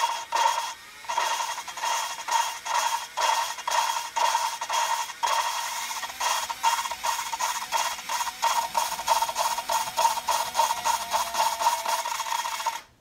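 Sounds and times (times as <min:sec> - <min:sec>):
gritty valve scraping: 0:00.0 - 0:12.8
cordless drill motor whine: 0:00.0 - 0:12.9.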